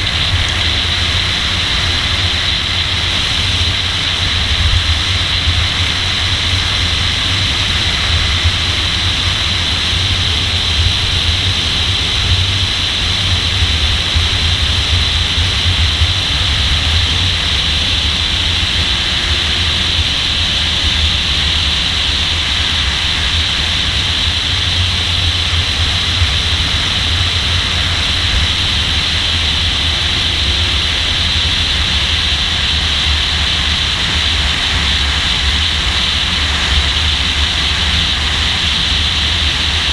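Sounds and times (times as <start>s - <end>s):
car engine rumble: 0.0s - 39.9s
wind and road noise: 0.0s - 39.9s.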